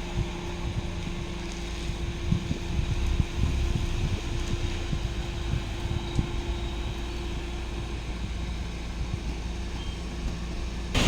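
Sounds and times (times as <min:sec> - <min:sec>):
vehicle engine rumbling: 0:00.0 - 0:11.0
wind buffeting microphone: 0:00.0 - 0:11.0.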